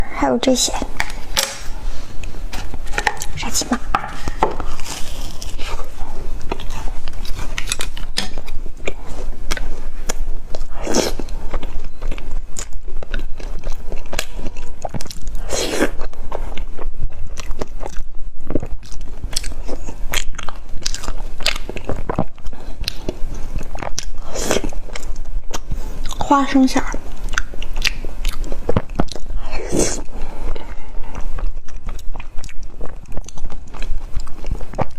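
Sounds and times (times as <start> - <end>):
chewing crunchy snack: 4.1 - 34.9.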